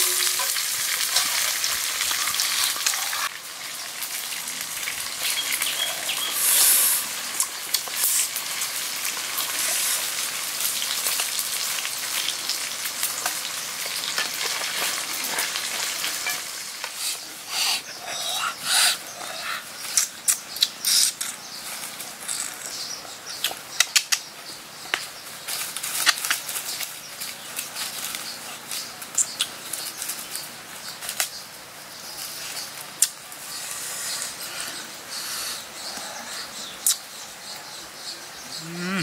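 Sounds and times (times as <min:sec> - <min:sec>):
leaves and food crackling: 0:00.0 - 0:37.1.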